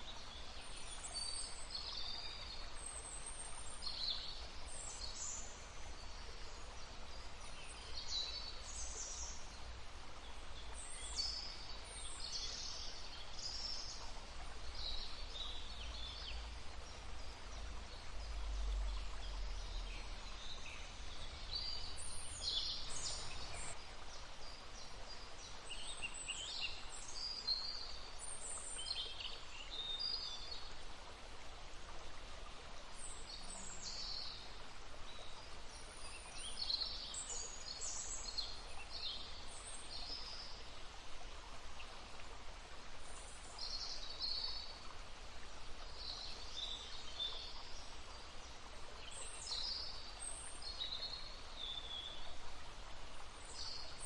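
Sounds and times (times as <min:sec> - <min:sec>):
songbirds chirping: 0:00.0 - 0:54.0
stream water running: 0:00.0 - 0:54.0.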